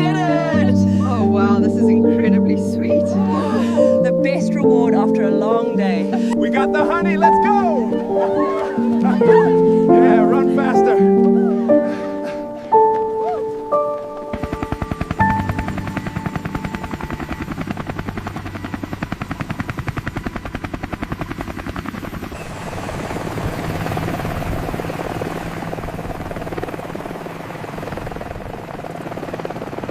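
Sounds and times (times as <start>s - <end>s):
helicopter rotor chopping: 0.0s - 13.0s, 13.7s - 29.9s
helicopter engine drone: 0.0s - 29.9s.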